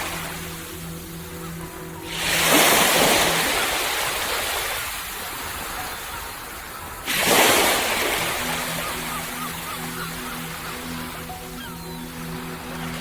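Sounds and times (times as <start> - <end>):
ocean waves breaking on shore: 0.0 - 13.0.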